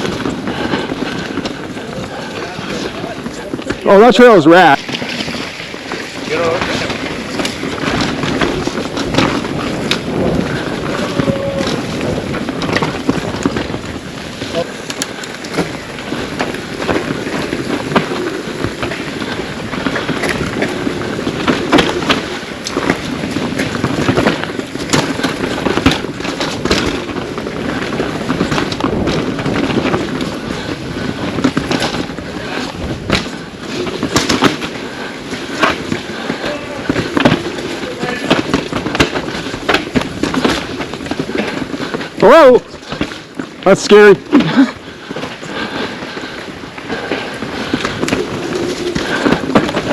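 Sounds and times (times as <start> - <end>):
bike knocking and clattering: 0.0 - 49.9
tyres rolling over dirt and rocks: 0.0 - 49.9.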